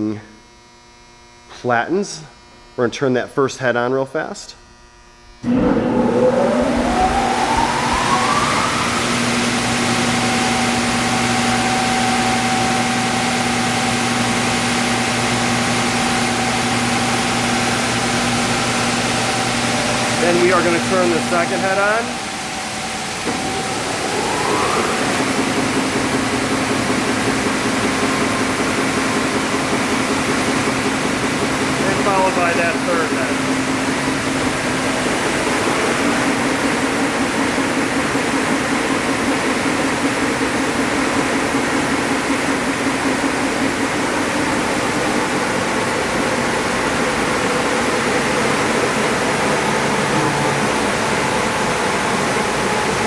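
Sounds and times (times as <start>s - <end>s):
belt sander motor whine: 4.6s - 53.0s.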